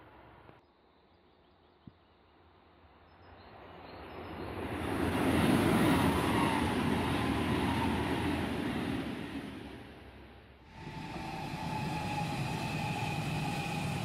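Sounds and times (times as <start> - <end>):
high-speed train passing: 2.7 - 14.0.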